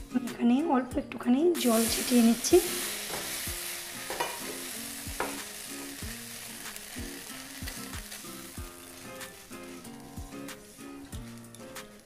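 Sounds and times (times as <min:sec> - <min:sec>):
flour sizzling in a pan: 0:01.6 - 0:12.0.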